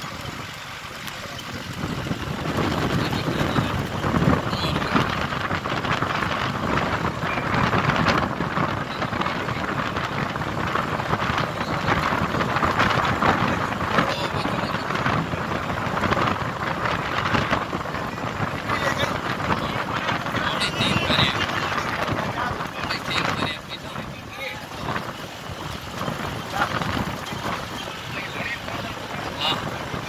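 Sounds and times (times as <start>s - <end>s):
vehicle engine and tyre noise: 0.0s - 30.0s
wind buffeting microphone: 0.0s - 30.0s.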